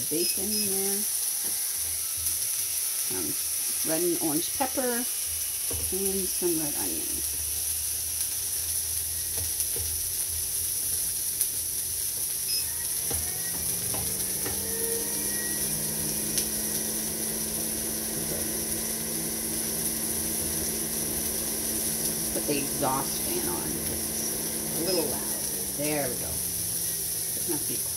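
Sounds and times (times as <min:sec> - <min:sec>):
food sizzling on a griddle: 0:00.0 - 0:27.9
exhaust fan humming: 0:03.0 - 0:27.9.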